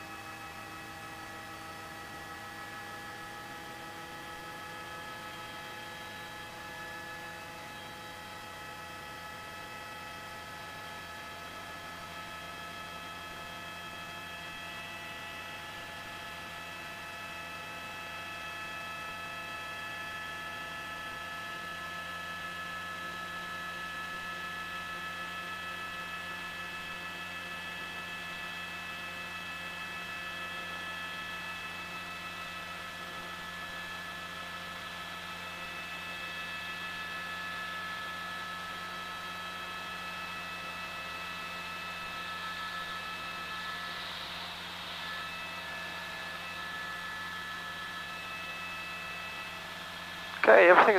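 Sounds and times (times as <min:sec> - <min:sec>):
helicopter whine over low hum: 0:00.0 - 0:50.9.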